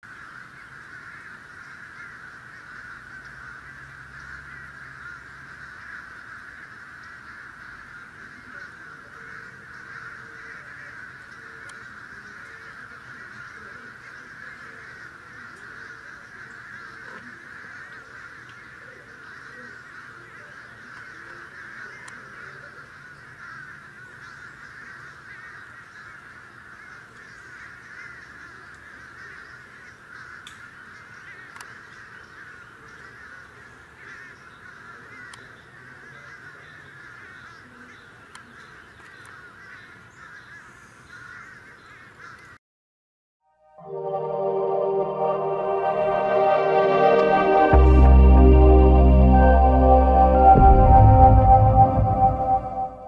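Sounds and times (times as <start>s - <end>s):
flock of crows cawing: 0.0s - 42.6s.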